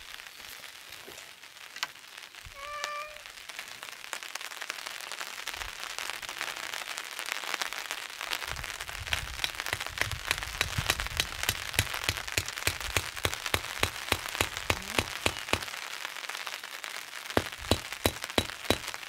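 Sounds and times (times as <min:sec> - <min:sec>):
rain on a canvas tarp: 0:00.0 - 0:19.0.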